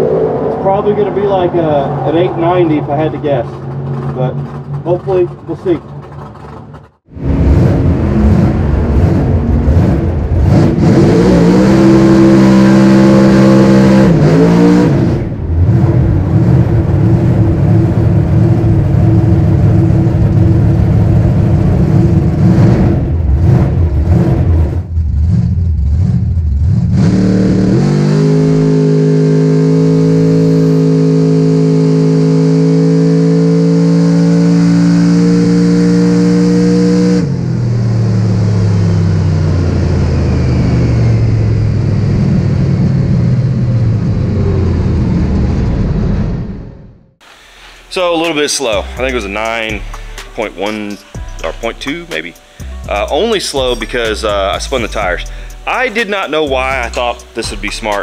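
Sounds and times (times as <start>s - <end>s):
drag racing engine revving: 0.0s - 58.0s.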